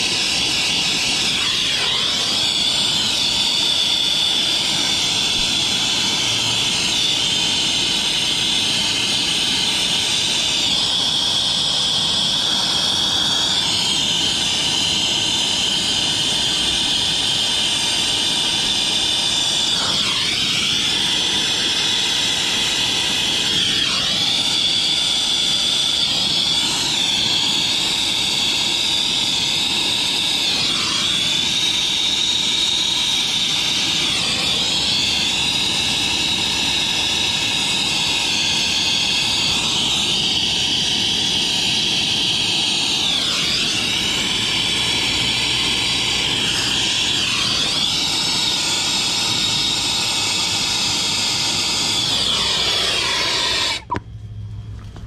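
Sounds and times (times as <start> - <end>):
torch hissing: 0.0 - 54.0.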